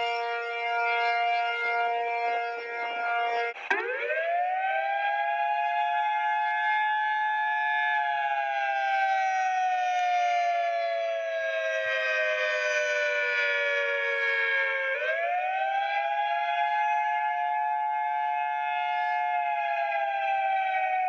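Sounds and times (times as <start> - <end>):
two-tone siren wailing: 0.0 - 21.0.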